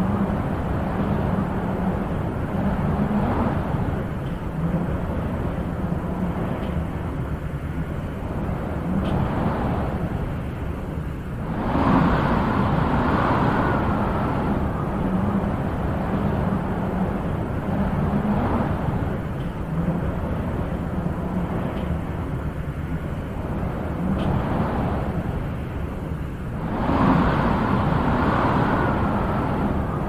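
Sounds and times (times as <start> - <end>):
wind blowing: 0.0 - 30.0.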